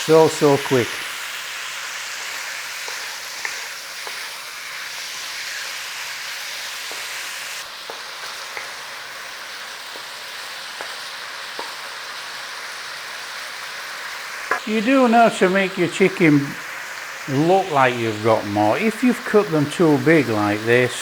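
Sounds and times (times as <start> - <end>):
chicken sizzling in a frying pan: 0.0 - 21.0.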